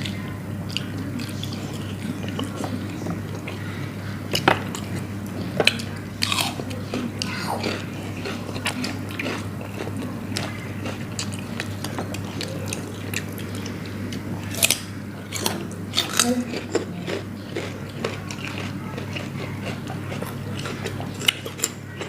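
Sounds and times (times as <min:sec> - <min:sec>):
biting and chewing food: 0:00.0 - 0:22.0
steady low hum: 0:00.0 - 0:22.0.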